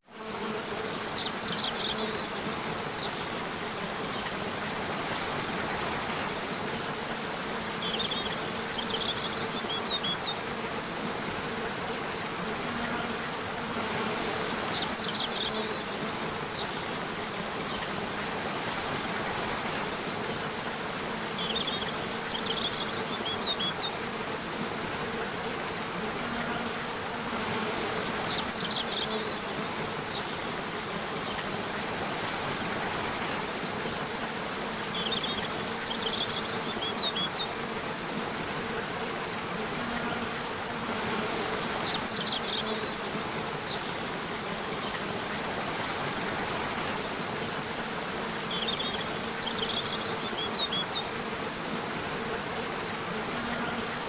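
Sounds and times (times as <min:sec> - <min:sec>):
insect buzz: 0:00.0 - 0:54.0.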